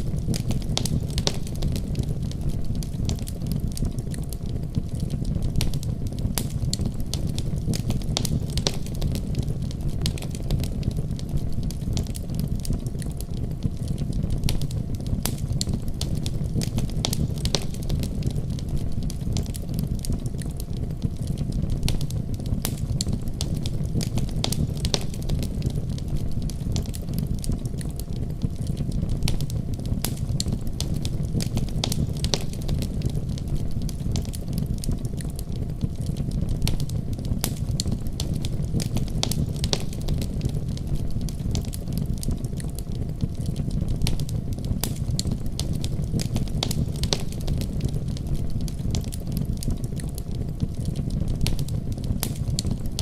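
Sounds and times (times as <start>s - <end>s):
fireplace fire crackling: 0.0s - 53.0s.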